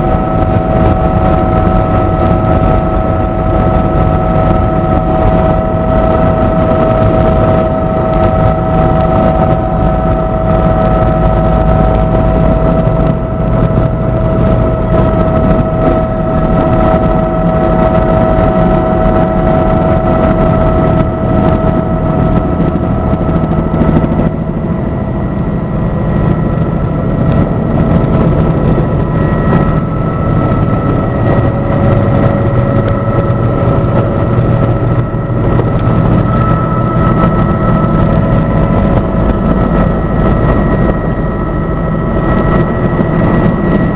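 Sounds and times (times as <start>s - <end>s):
constant whining tones: 0.0s - 43.9s
helicopter engine and rotor noise: 0.0s - 43.9s.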